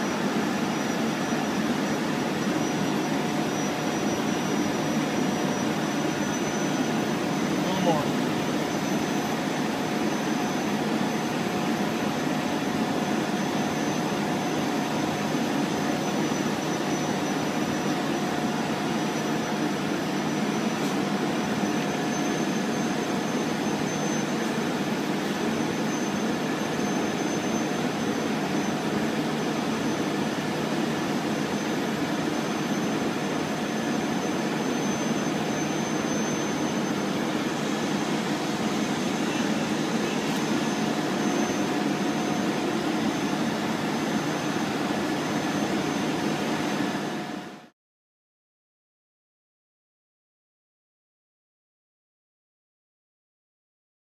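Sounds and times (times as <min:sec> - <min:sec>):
machine drone with whine: 0:00.0 - 0:47.7.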